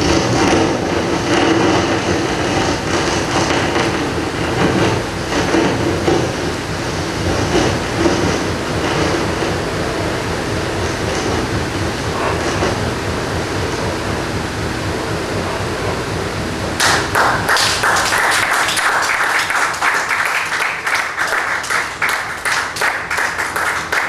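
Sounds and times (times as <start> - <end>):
audience applause: 0.0 - 24.0
low rumbling noise music: 0.0 - 24.0.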